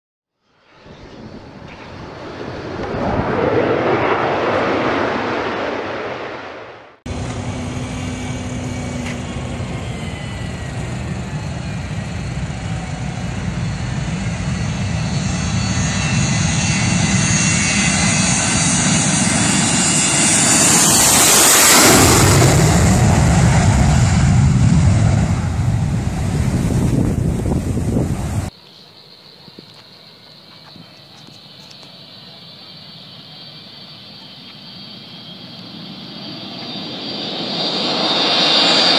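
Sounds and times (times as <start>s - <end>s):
jet airliner taking off: 0.4s - 38.9s.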